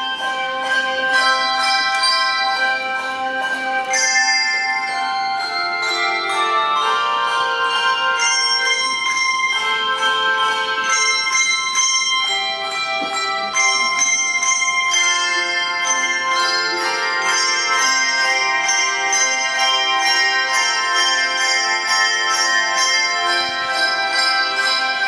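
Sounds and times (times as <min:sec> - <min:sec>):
handbell choir playing: 0:00.0 - 0:25.0.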